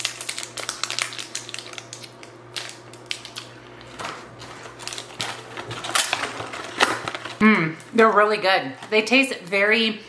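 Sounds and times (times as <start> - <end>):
plastic pouch crinkling: 0.0 - 9.4.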